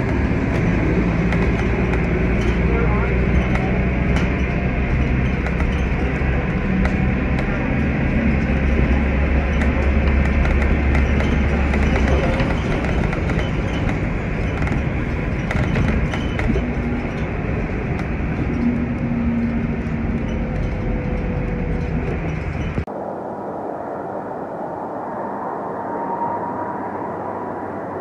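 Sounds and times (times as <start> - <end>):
jet engines roaring: 0.0 - 28.0
low hum: 0.0 - 28.0.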